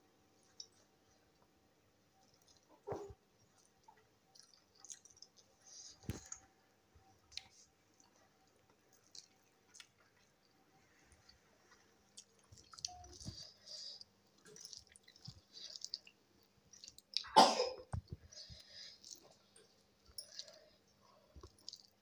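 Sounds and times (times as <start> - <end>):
person chewing: 2.2 - 6.4, 7.3 - 22.0
wet squishing of fingers in rice: 2.2 - 6.5, 7.2 - 17.4, 18.0 - 22.0.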